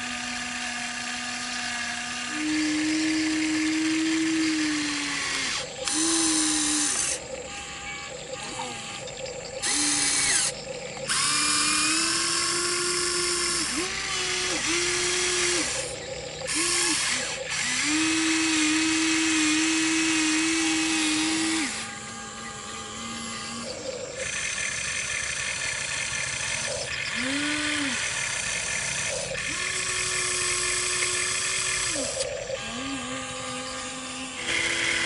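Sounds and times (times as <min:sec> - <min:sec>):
electric motors and gearboxes whining: 0:00.0 - 0:35.0.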